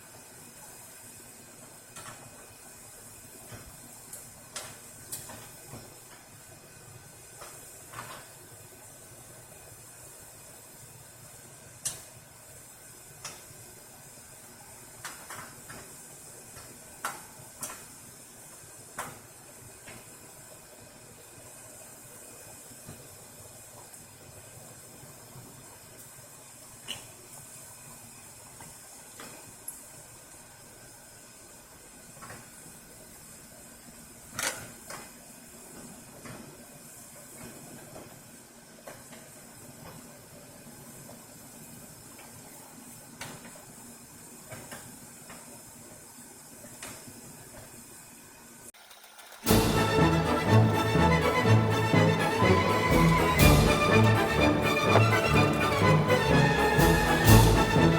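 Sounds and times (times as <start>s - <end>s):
steady hiss: 0.0s - 57.9s.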